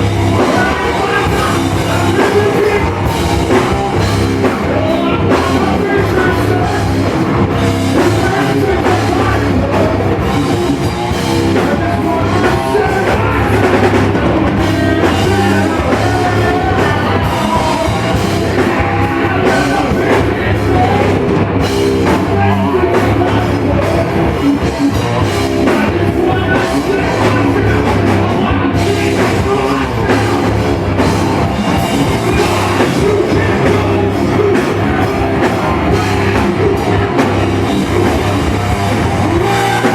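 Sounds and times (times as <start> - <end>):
loud rock band playing: 0.0 - 39.9
person singing: 0.0 - 39.9.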